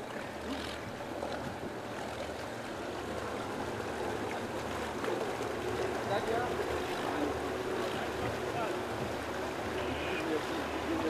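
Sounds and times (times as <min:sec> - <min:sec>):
boat engines running: 0:00.0 - 0:11.0
water washing against hull: 0:00.0 - 0:11.0.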